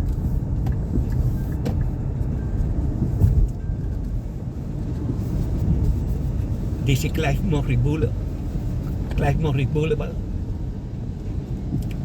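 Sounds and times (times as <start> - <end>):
road and engine noise in car: 0.0 - 12.0.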